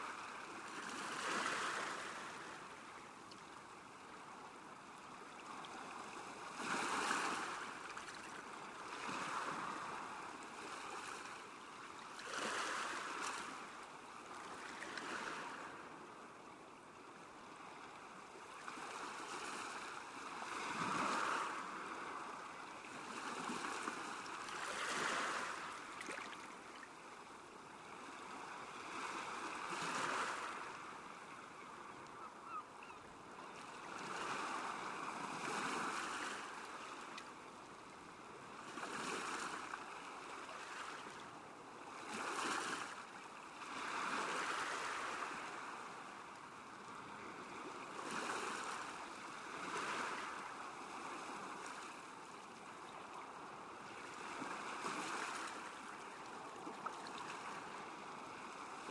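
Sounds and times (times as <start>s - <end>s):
small waves washing ashore: 0.0s - 58.9s.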